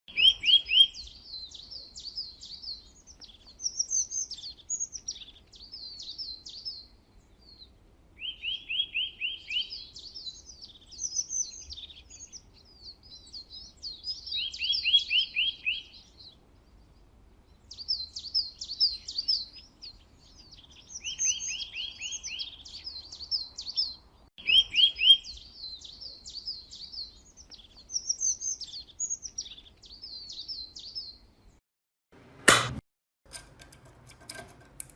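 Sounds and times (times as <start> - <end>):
high bird chirps: 0.1 - 6.9, 8.2 - 16.0, 17.7 - 31.2
songbirds trilling: 0.1 - 31.6.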